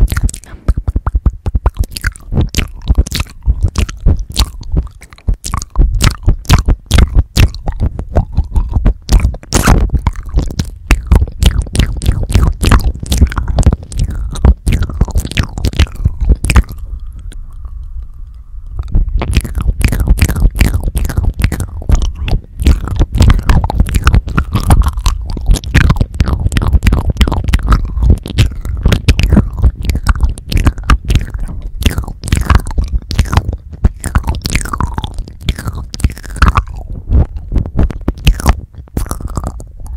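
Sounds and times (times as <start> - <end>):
wet mouth clicks and smacks: 0.0 - 39.9.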